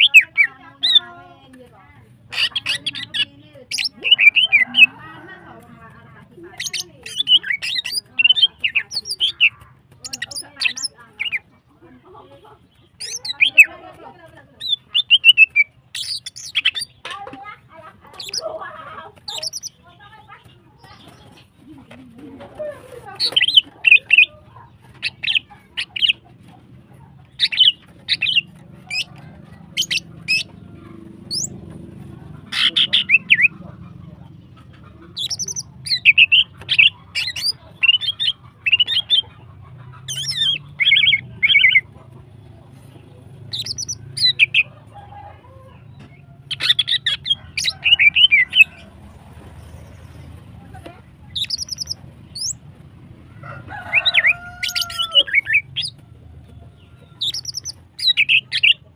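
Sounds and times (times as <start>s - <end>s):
bird chattering calls: 0.0s - 1.1s, 2.2s - 5.4s, 6.2s - 11.5s, 12.5s - 17.1s, 18.1s - 19.9s, 23.1s - 44.9s, 45.8s - 56.0s, 56.8s - 58.9s.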